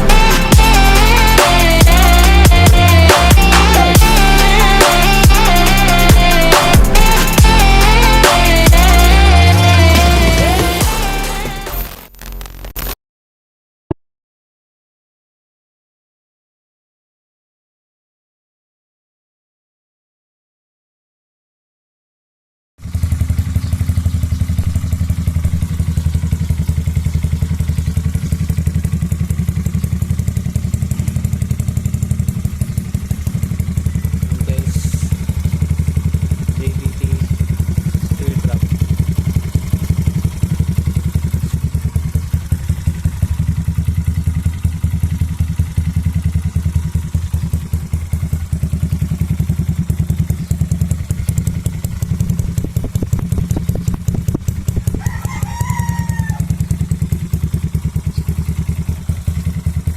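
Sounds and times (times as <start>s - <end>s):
scooter engine idling: 0.0s - 11.6s, 22.8s - 59.9s.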